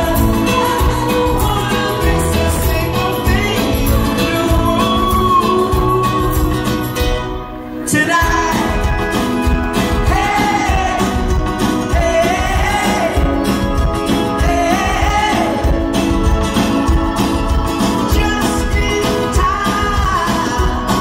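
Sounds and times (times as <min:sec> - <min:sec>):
man singing: 0:00.0 - 0:07.2, 0:07.8 - 0:21.0
live pop-rock band: 0:00.0 - 0:21.0.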